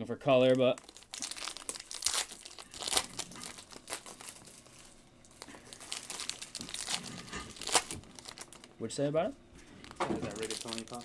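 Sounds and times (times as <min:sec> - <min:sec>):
plastic wrapper crinkling: 0:00.3 - 0:08.8, 0:09.6 - 0:11.0.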